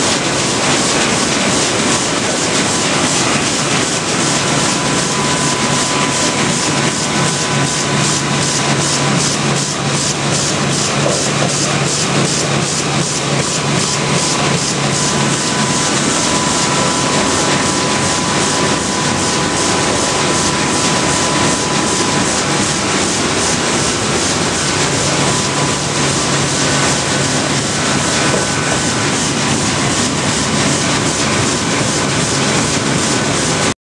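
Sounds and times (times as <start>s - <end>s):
constant machine hum: 0.0s - 33.7s
printing press mechanical beat: 0.0s - 33.7s.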